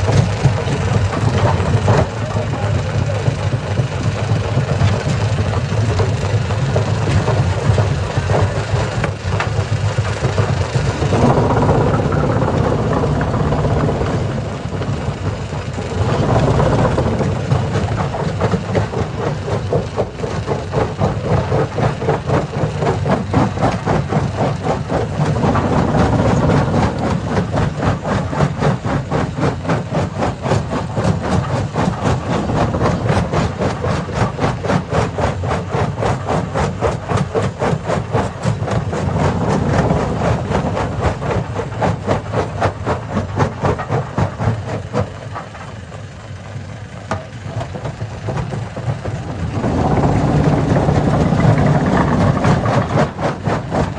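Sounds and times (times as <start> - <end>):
stone crusher running: 0.0 - 53.9.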